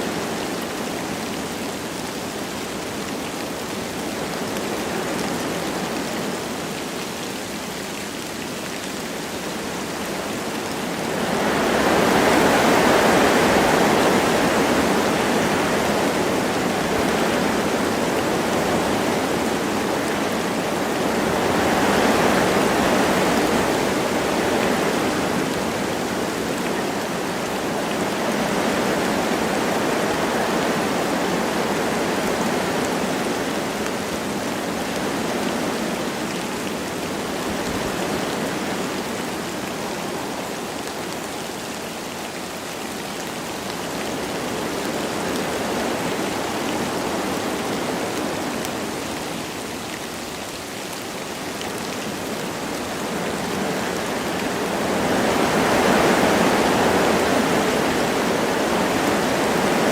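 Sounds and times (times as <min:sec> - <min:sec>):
light rain falling: 0:00.0 - 0:59.9
wind through forest trees: 0:00.0 - 0:59.9.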